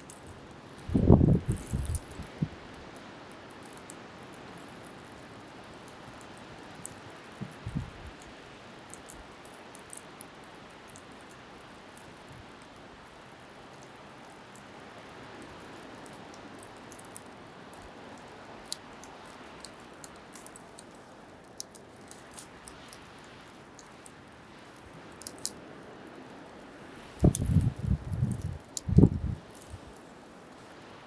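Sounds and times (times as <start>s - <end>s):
bonfire crackling and popping: 0.0s - 31.0s
wind: 0.0s - 31.0s.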